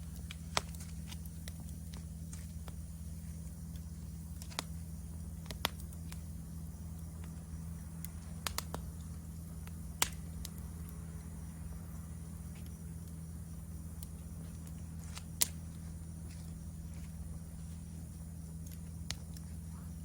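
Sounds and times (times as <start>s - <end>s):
insects trilling: 0.0s - 20.0s
wood fire crackling and popping: 0.0s - 20.0s.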